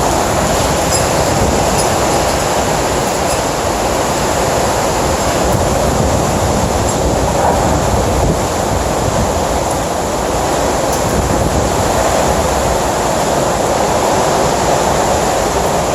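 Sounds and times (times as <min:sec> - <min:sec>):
hurricane wind rushing: 0:00.0 - 0:15.9.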